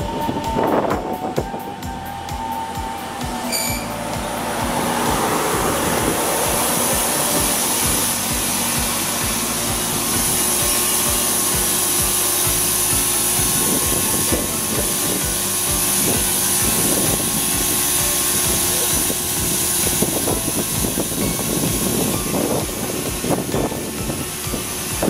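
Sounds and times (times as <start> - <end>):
train rolling and rushing: 0.0 - 25.0
wheels clicking over rail joints: 0.0 - 25.0.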